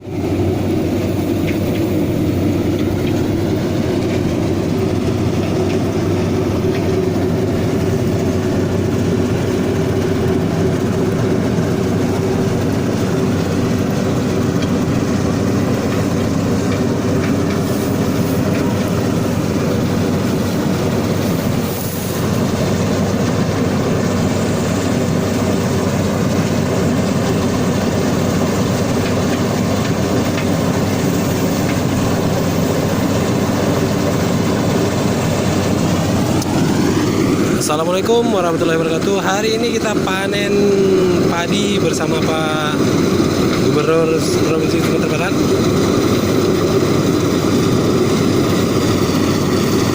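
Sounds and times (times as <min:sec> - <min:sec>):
combine harvester rumbling: 0:00.0 - 0:49.9.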